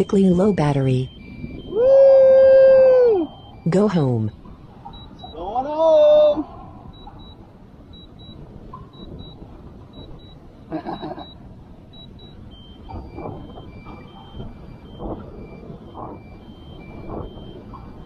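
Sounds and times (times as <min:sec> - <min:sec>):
drone low-battery warning beeps: 0:00.0 - 0:05.7, 0:06.8 - 0:18.0
wind rumbling on microphone: 0:00.0 - 0:18.0.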